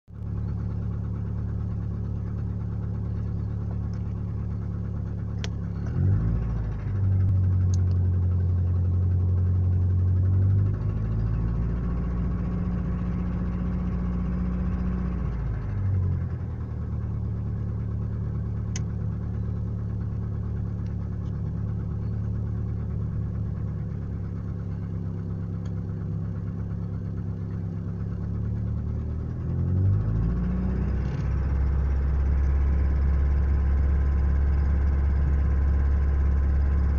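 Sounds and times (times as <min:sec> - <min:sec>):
car engine running: 0:00.1 - 0:36.9.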